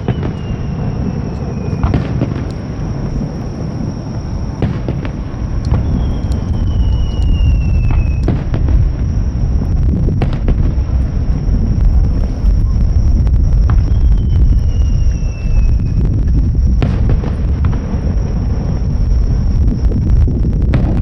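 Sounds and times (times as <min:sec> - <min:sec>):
firework whistle: 0:00.0 - 0:21.0
fireworks booming: 0:00.0 - 0:21.0
sharp firework bangs: 0:00.0 - 0:21.0.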